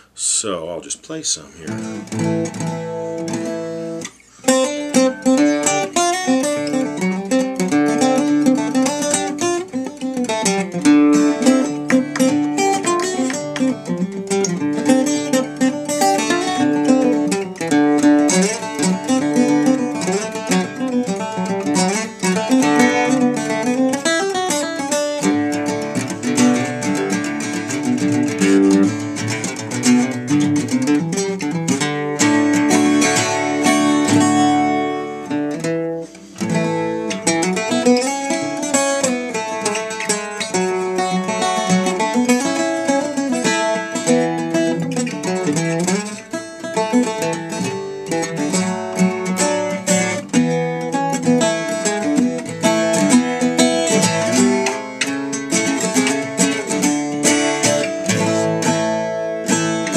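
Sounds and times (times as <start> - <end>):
plucked mandolin notes and chords: 1.6 - 59.9.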